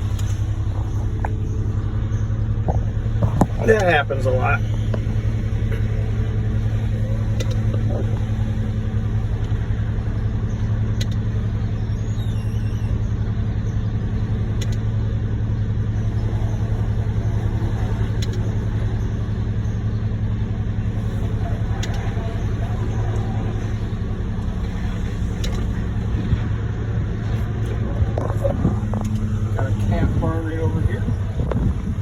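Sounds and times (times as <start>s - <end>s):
diesel engine low rumble: 0.0s - 32.0s.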